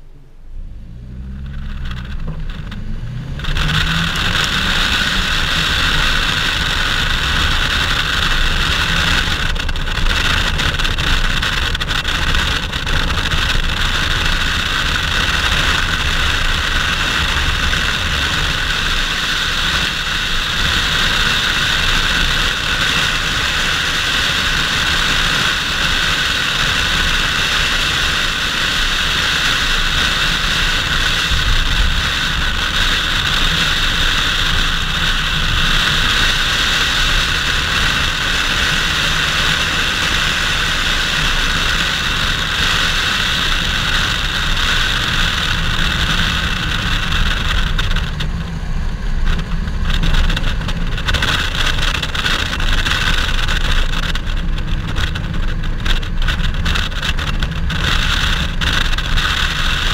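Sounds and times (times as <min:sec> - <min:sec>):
car engine revving: 0:00.0 - 0:59.9
low engine drone: 0:00.0 - 0:59.9
wind rushing over camera: 0:00.0 - 0:59.9.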